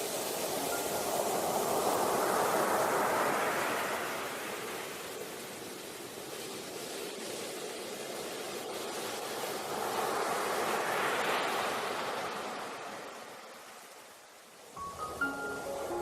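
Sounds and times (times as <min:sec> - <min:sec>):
ocean wave: 0:00.0 - 0:16.0.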